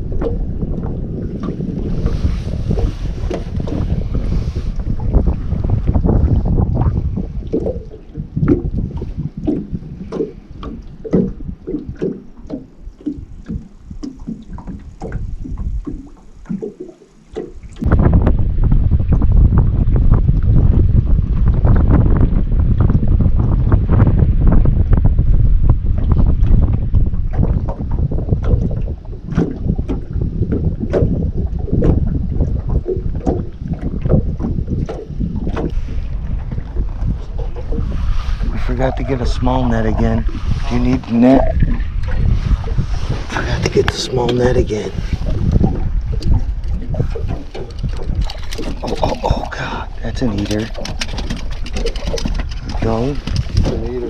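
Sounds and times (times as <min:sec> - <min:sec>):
low wind rumble on microphone: 0:00.0 - 0:54.0
waves slapping boat hull: 0:00.0 - 0:54.0.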